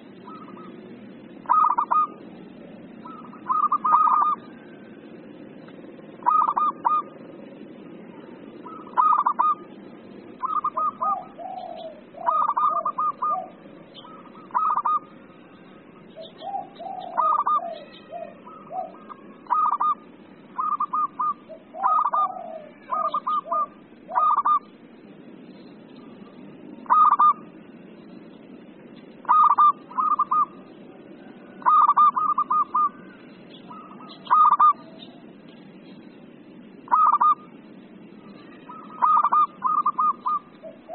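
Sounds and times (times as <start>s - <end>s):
dove cooing in staccato bursts: 0.0s - 7.5s, 8.5s - 24.8s, 26.3s - 27.9s, 28.8s - 35.4s, 36.6s - 37.6s, 38.5s - 40.9s
steady low hiss: 0.0s - 40.9s.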